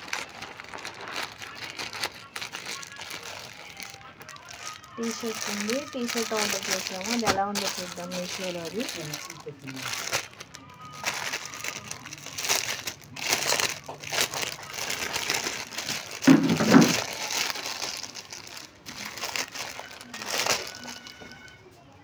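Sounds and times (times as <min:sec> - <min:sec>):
plastic bag crinkling: 0:00.0 - 0:21.6.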